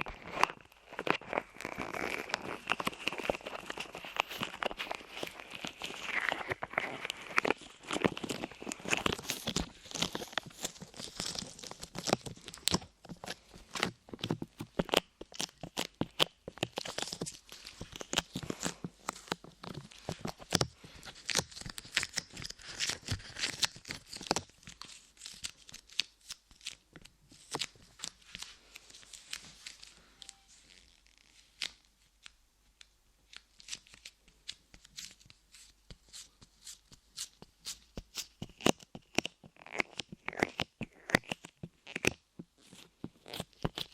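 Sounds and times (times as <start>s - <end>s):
sticky clay crackling on microphone: 0.0s - 29.9s, 30.7s - 43.9s.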